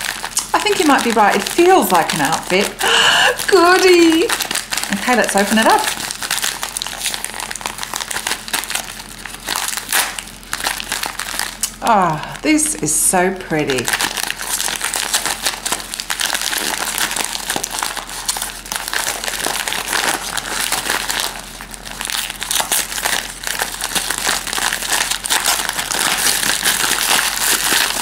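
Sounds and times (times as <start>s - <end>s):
paper bag crinkling: 0.0s - 12.4s, 13.4s - 28.0s.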